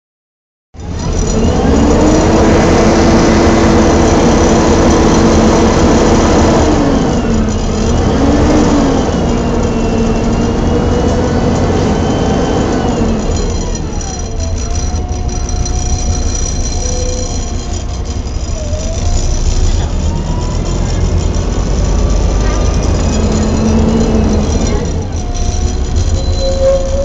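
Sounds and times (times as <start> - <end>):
bus engine fan drone: 0.8 - 27.0
gearbox whine: 0.8 - 27.0.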